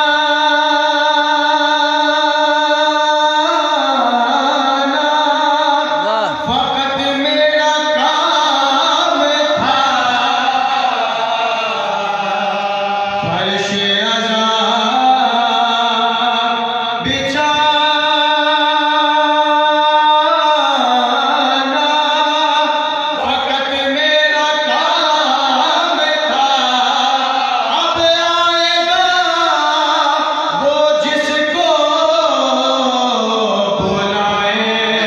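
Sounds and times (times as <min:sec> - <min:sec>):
man chanting into a microphone: 0:00.0 - 0:35.0.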